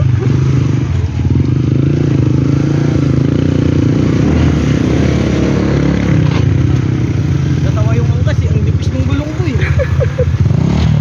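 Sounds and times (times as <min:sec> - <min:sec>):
motorcycle engine under load: 0:00.0 - 0:11.0.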